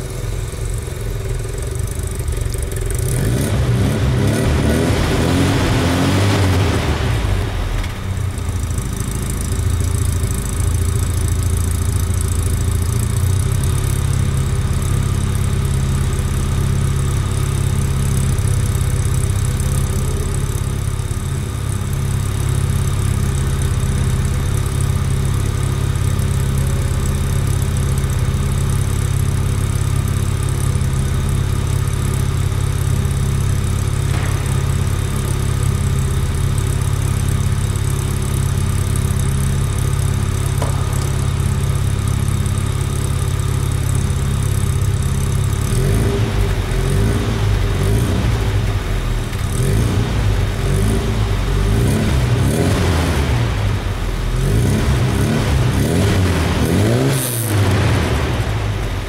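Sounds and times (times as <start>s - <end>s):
car engine revving and idling: 0.0s - 59.0s.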